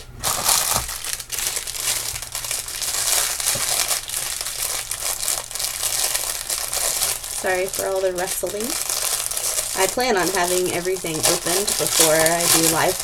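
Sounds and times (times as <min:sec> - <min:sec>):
plastic bags rustling and crinkling: 0:00.0 - 0:13.0.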